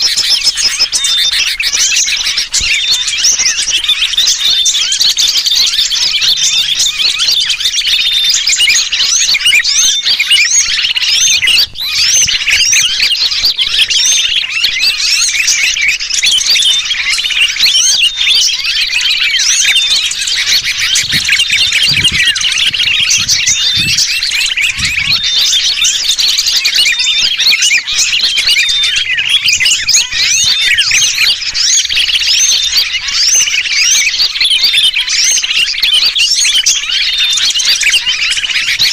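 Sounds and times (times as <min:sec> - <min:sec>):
bulbul distress calls: 0:00.0 - 0:38.9
songbirds chirping: 0:00.0 - 0:38.9.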